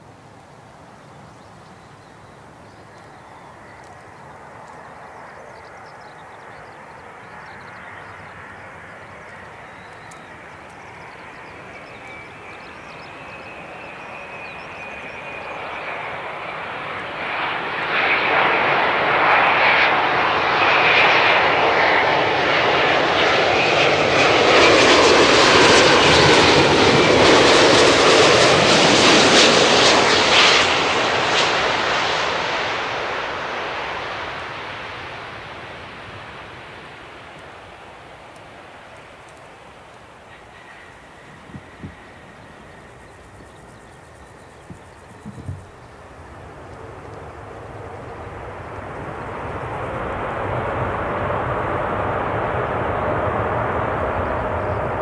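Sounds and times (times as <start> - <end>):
jet airliner engines roaring: 0.0 - 55.0
high engine whine: 2.5 - 20.6, 21.2 - 55.0.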